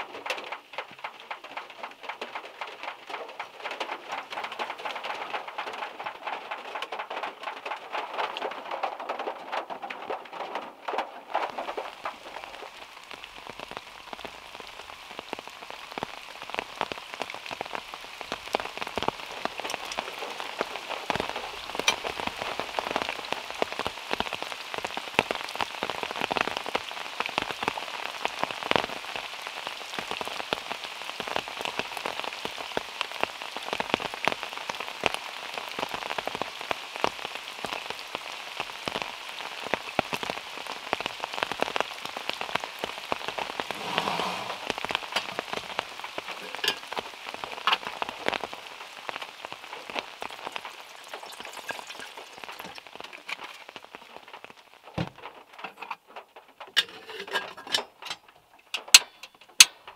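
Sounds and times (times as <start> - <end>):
heavy drips from trees: 0.0 - 56.8, 57.8 - 59.9
rain pattering on a car: 0.0 - 59.9.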